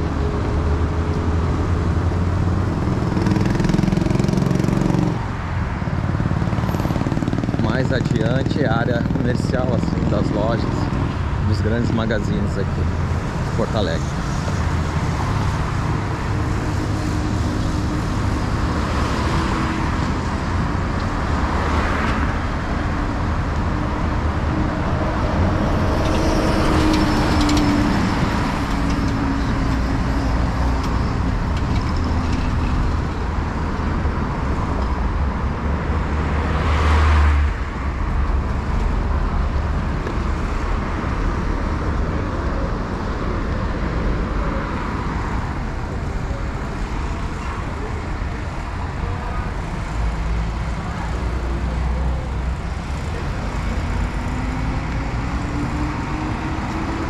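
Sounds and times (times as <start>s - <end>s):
cars and bus passing: 0.0s - 57.0s
low traffic rumble: 0.0s - 57.0s.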